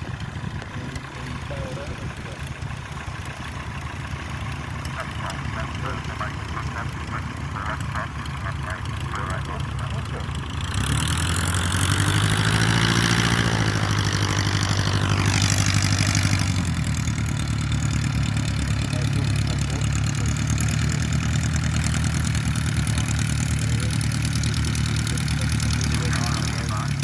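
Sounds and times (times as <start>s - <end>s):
propeller aircraft engine: 0.0s - 27.0s.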